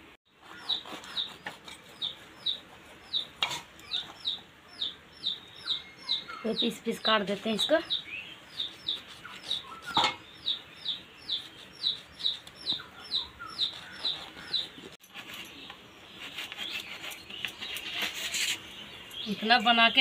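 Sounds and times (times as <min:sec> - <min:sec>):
bird chirping: 0:00.4 - 0:20.0.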